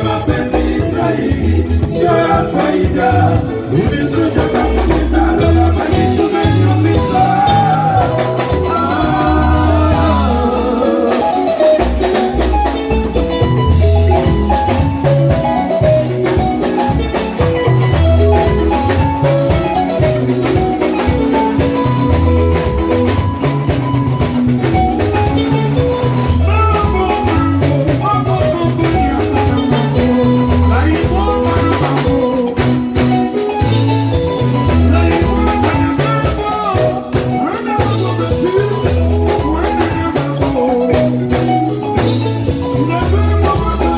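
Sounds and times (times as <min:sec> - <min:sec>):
band playing rumba: 0:00.0 - 0:43.9.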